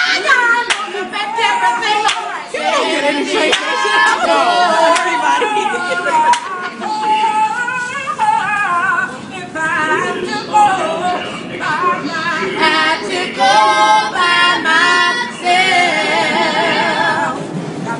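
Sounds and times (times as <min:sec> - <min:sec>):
women and girl singing a cappella: 0:00.0 - 0:17.4.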